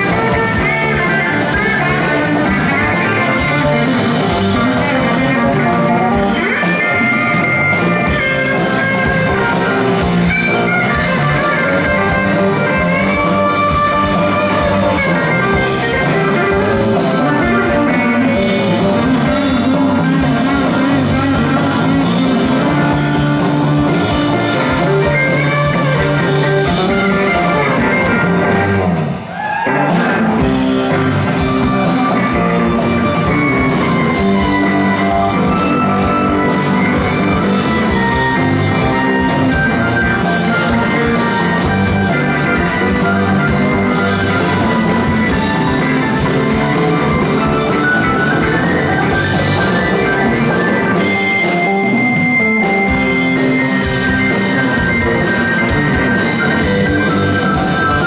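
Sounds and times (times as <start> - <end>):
live blues-rock band playing: 0.0 - 58.0.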